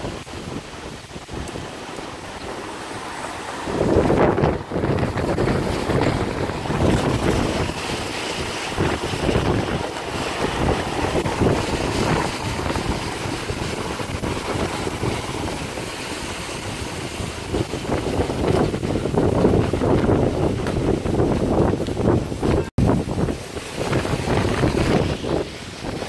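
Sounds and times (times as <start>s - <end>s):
tyres hissing on wet road: 0.0s - 26.0s
wind buffeting microphone: 0.0s - 26.0s.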